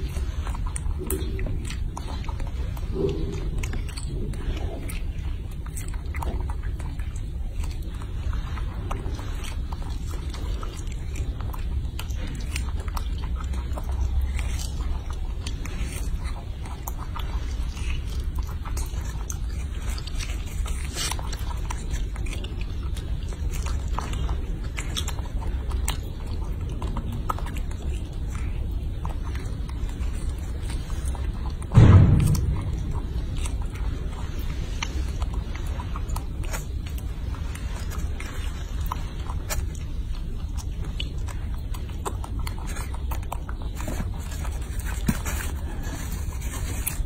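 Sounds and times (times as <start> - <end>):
monkey chewing wetly: 0.0 - 47.0
steady low hum: 0.0 - 47.0.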